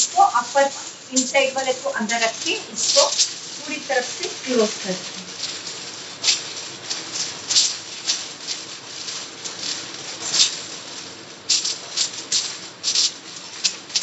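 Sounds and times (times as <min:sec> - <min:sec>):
aluminium foil crinkling: 0:00.0 - 0:14.0.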